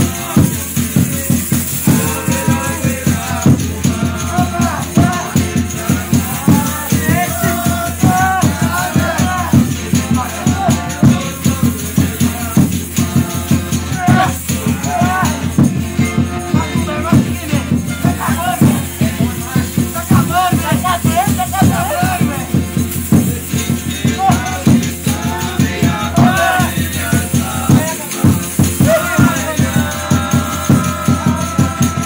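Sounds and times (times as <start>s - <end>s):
drum fast steady beat: 0.0s - 32.0s
tambourine jingling: 0.0s - 32.0s
voices singing: 0.0s - 32.0s.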